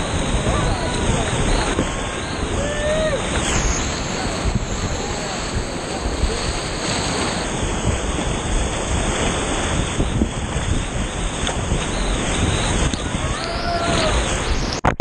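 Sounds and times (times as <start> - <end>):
whitewater rapids splashing against raft: 0.0 - 15.0.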